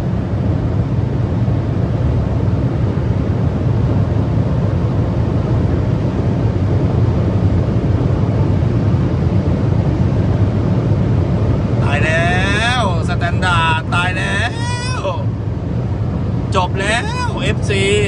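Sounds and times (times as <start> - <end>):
car cabin engine drone: 0.0 - 18.0
road and wind noise: 0.0 - 18.0.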